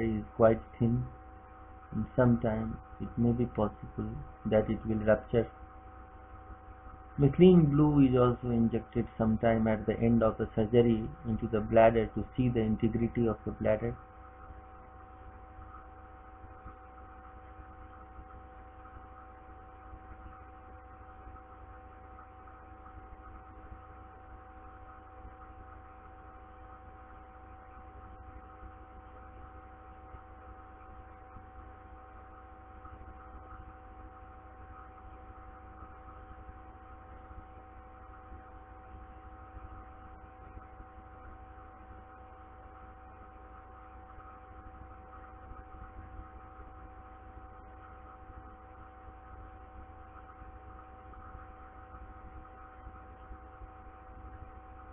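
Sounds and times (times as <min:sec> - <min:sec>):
electrical hum: 0:00.0 - 0:54.9.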